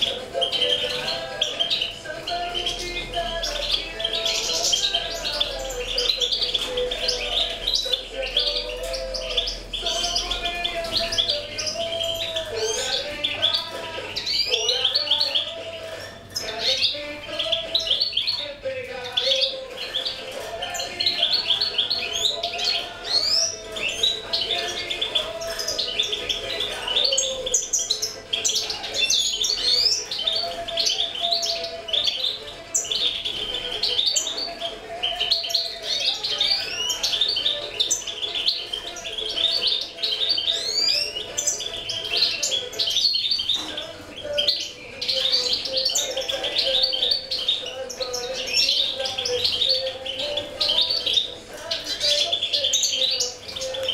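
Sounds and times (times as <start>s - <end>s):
cage birds chirping: 0.0s - 53.9s.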